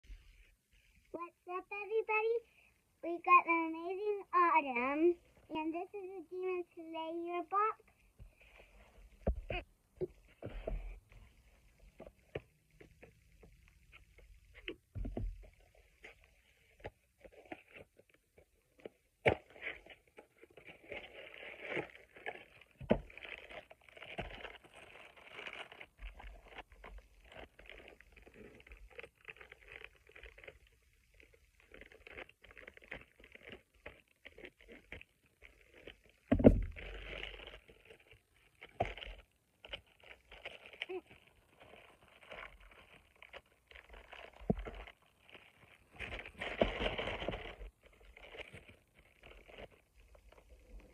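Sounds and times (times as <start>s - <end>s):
plastic rustling and crinkling: 4.8s - 50.9s.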